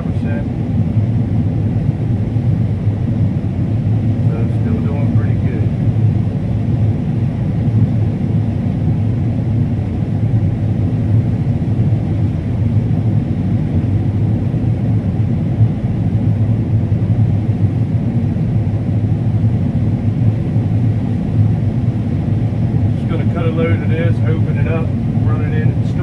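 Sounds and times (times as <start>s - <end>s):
combine harvester droning: 0.0s - 26.0s.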